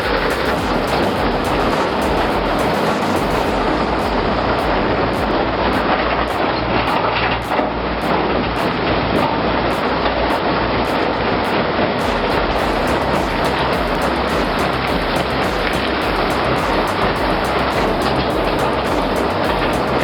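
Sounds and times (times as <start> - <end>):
heavy machinery rumbling: 0.0 - 20.0.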